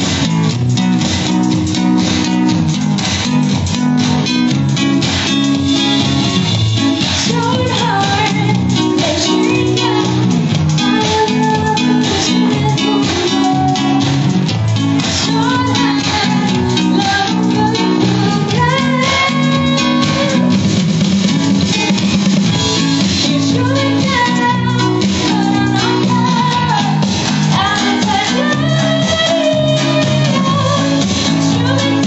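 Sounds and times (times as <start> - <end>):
bass guitar: 0.0 - 32.0
drum kit: 0.0 - 32.0
lead guitar melody: 0.0 - 32.0.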